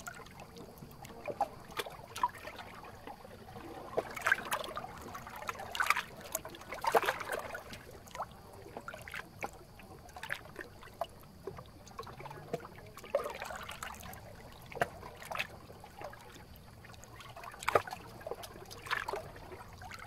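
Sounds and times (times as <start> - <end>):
small waves lapping: 0.0 - 20.0
trickling water: 0.0 - 20.0
water splashes: 0.0 - 20.0.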